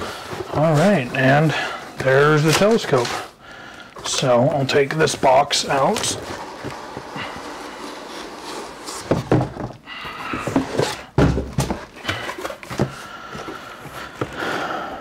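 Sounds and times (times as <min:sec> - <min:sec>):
cardboard boxes scraping: 0:00.0 - 0:03.4, 0:04.0 - 0:14.6.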